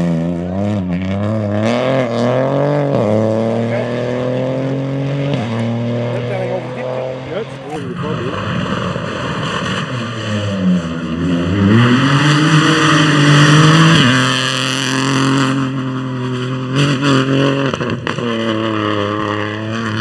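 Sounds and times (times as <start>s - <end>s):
rally car accelerating past: 0.0s - 20.0s.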